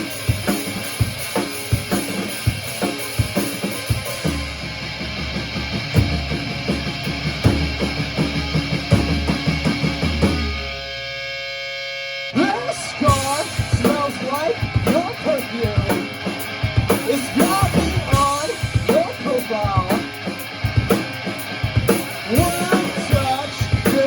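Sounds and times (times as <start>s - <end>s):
drum kit beat: 0.0s - 10.8s, 12.4s - 24.0s
band playing instrumental: 0.0s - 11.0s, 12.3s - 24.0s.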